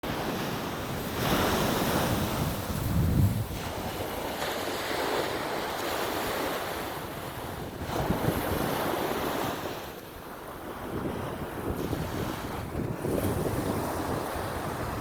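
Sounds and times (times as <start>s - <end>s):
sea waves washing: 0.1s - 15.0s
wind buffeting microphone: 0.2s - 15.0s.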